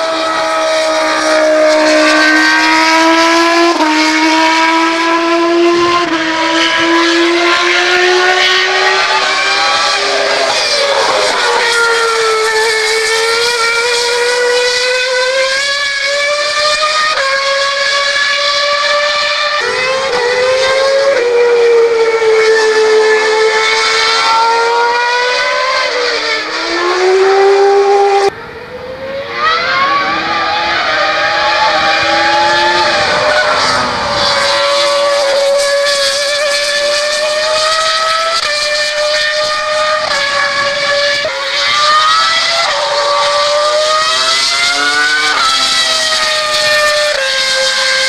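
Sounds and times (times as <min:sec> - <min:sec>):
race car engine at high revs: 0:00.0 - 0:48.0.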